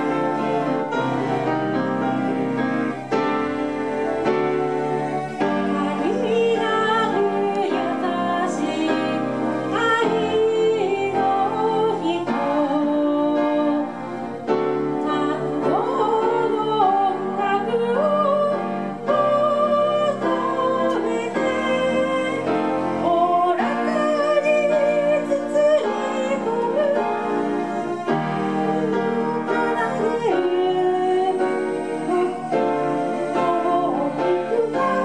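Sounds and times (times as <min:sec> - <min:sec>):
electric keyboards: 0:00.0 - 0:35.0
wavering lead melody: 0:00.0 - 0:35.0.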